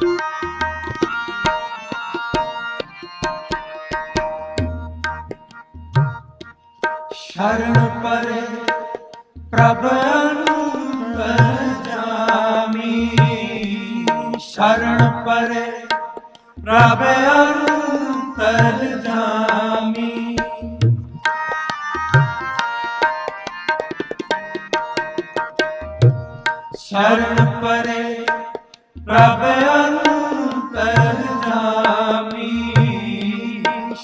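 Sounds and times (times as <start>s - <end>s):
tabla drumming: 0.0s - 34.0s
wavering wordless melody: 0.0s - 34.0s.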